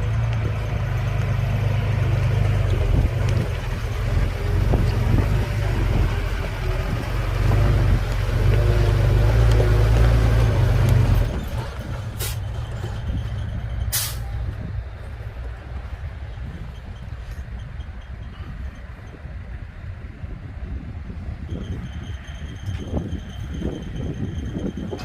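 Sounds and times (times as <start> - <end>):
bulldozer diesel engine rumbling: 0.0 - 25.0.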